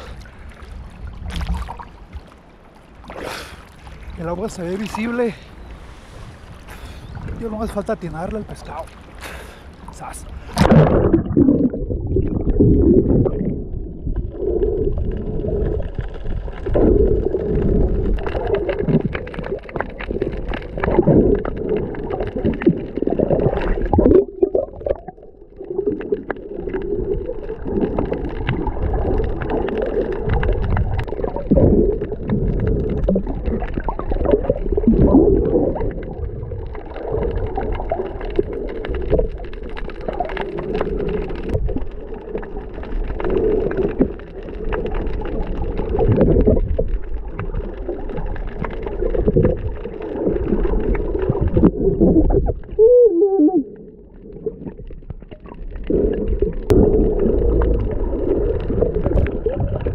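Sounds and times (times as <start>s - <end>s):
air bubbles: 0.0s - 2.2s, 6.6s - 59.9s
underwater rumbling and gurgling: 0.0s - 59.9s.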